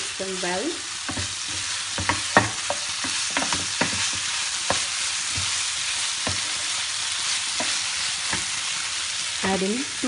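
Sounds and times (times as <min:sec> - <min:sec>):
tofu sizzling in a pan: 0:00.0 - 0:10.0
wooden spatula scraping a pan: 0:01.0 - 0:09.6.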